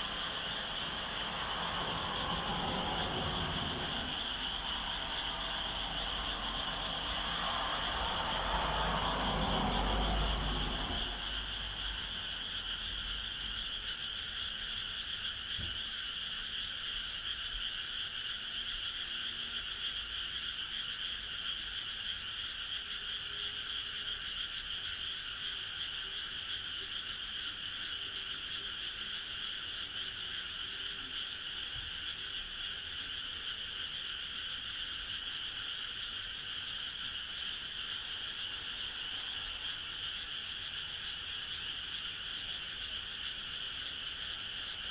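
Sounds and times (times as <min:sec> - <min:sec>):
chorus of frogs calling: 0:00.0 - 0:44.9.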